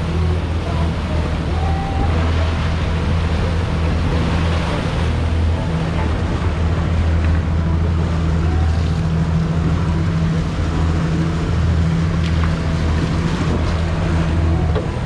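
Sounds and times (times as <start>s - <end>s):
outboard motor running: 0.0s - 15.0s
water noise: 0.0s - 15.0s
wind: 0.0s - 15.0s.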